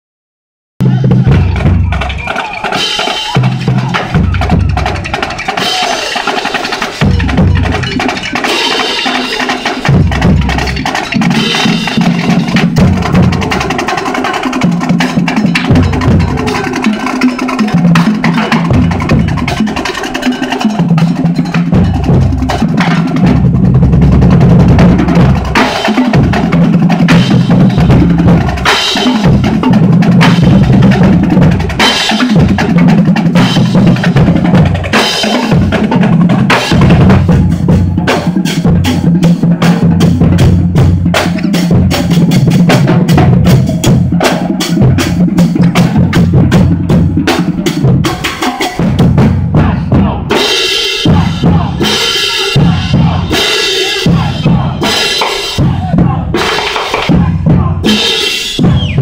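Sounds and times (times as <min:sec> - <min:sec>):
dhol drums beating: 0:00.8 - 0:59.0.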